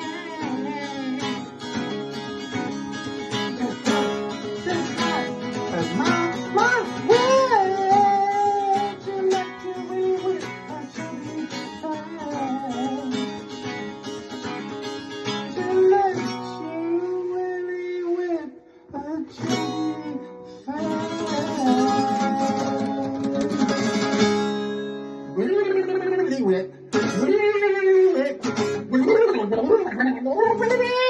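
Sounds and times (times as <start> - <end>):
acoustic guitar strumming: 0.0 - 18.3, 19.3 - 29.9.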